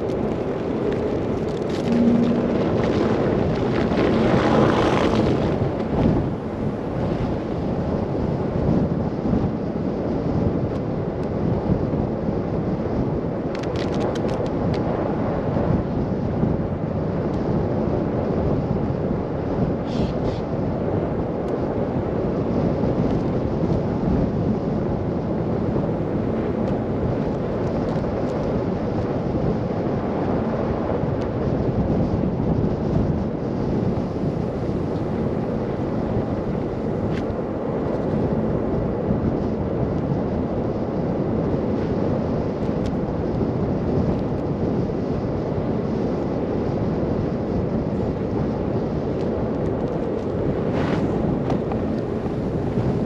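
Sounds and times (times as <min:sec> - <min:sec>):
car driving low rumble: 0:00.0 - 0:53.0
wind buffeting microphone: 0:00.0 - 0:53.0.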